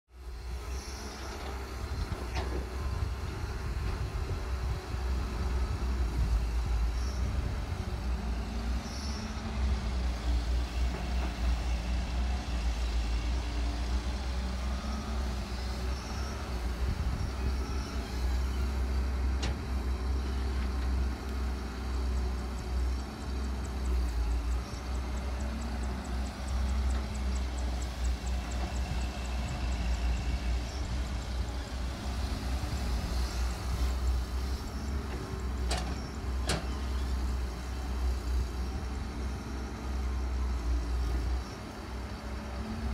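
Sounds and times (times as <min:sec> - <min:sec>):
excavator diesel engine rumbling: 0:00.2 - 0:42.9.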